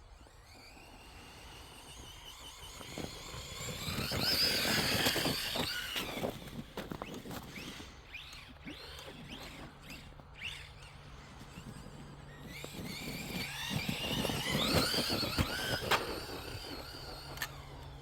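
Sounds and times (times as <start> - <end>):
electric toy truck motor whining: 0.0 - 18.0.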